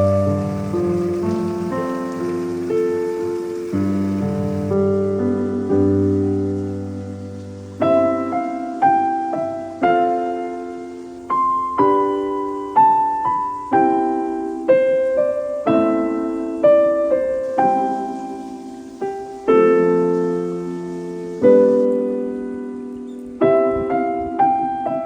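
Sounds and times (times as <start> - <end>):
slow gentle piano music: 0.0 - 25.0.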